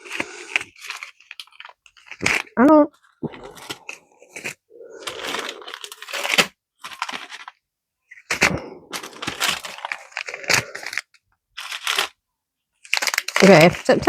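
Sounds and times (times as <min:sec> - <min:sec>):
plastic packaging crinkling: 0:00.0 - 0:12.2, 0:12.8 - 0:14.0.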